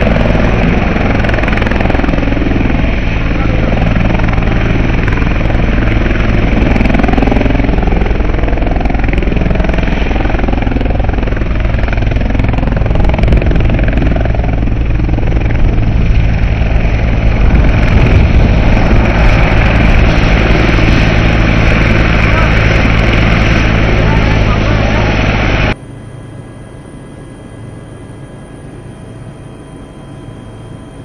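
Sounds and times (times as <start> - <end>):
helicopter turbine and rotor drone: 0.0 - 31.0.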